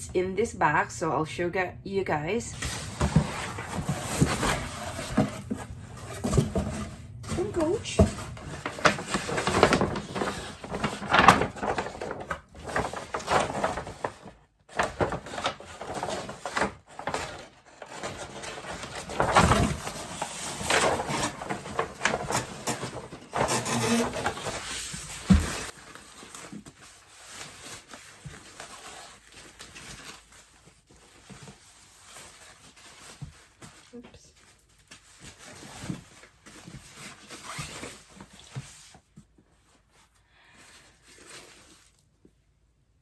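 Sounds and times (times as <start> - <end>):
packaging rustling: 2.5 - 38.9.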